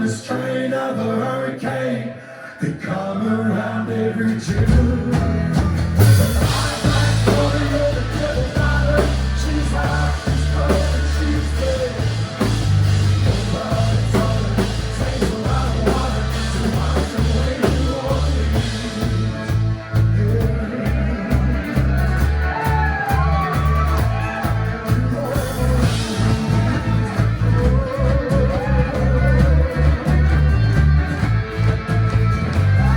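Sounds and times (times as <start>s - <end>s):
live rock band playing: 4.5s - 32.9s.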